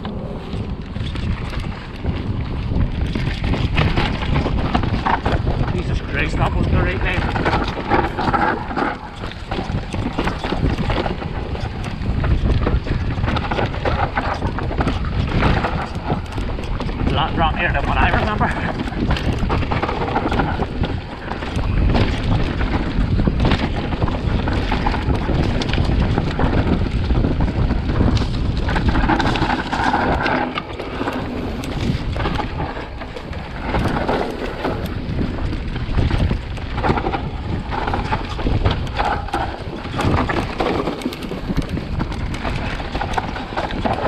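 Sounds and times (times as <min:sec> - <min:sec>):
bike clattering over bumps: 0:00.0 - 0:44.0
tyres rumbling over dirt: 0:00.0 - 0:44.0
wind buffeting microphone: 0:00.0 - 0:44.0.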